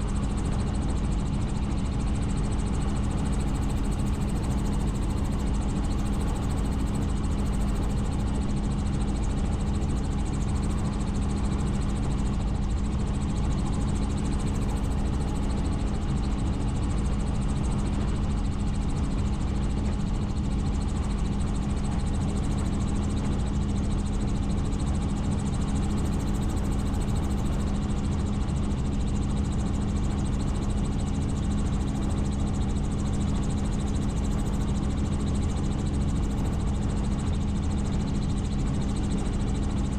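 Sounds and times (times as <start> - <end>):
helicopter engine and rotors droning: 0.0 - 39.9.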